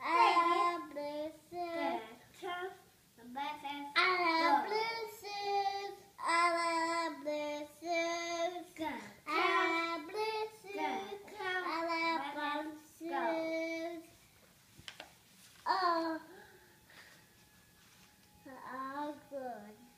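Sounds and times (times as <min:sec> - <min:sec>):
child singing: 0:00.0 - 0:14.1, 0:15.7 - 0:16.3, 0:18.5 - 0:19.9.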